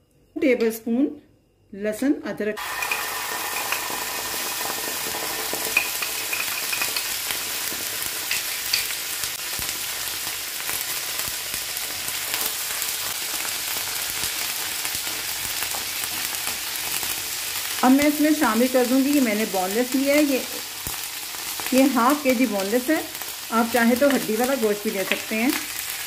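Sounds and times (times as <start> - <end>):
paste sizzling in hot oil: 2.6 - 26.0.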